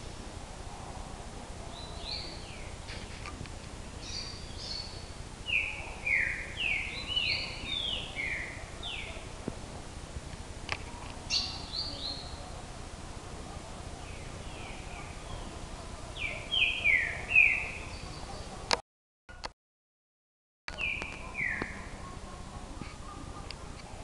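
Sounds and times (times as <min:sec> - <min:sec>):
steady background noise: 0:00.0 - 0:18.8, 0:20.7 - 0:24.0.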